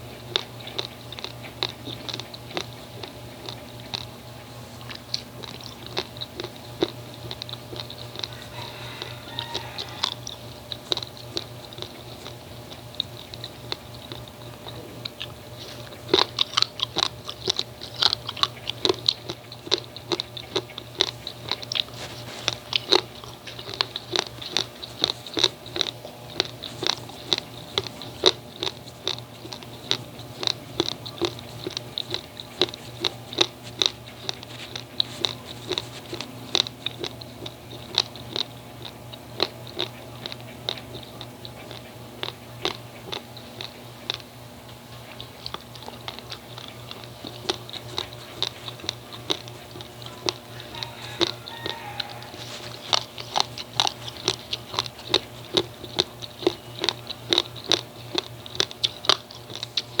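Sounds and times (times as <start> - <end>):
dry rice grains cracking when chewed: 0.0 - 60.0.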